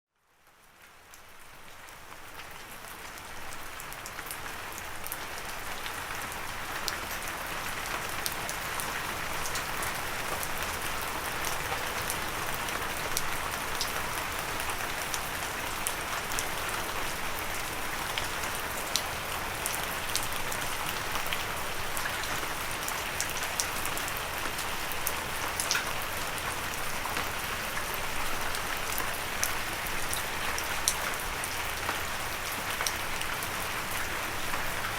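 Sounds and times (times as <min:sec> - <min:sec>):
raindrops ticking on a surface: 0:00.2 - 0:34.9.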